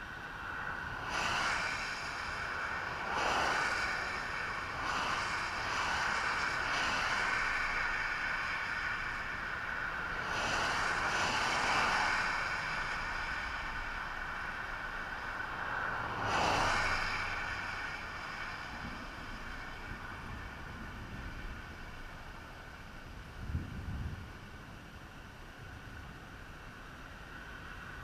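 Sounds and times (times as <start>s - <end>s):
vehicle passing: 0.0s - 22.8s
steady road hiss: 0.0s - 28.0s.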